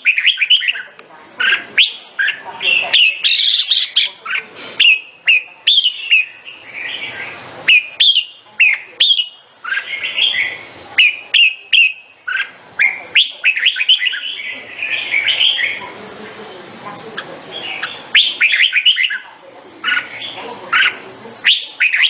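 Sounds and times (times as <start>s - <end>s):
bird singing chirping notes: 0.0s - 15.9s, 17.2s - 22.0s.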